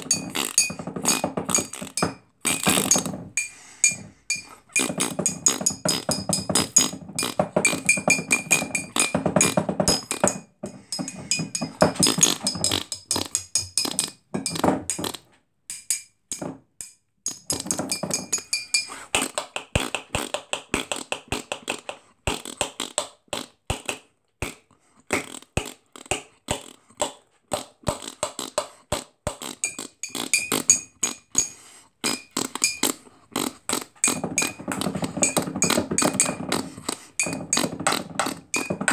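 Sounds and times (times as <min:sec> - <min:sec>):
person beatboxing: 0:00.0 - 0:15.2, 0:17.5 - 0:38.9.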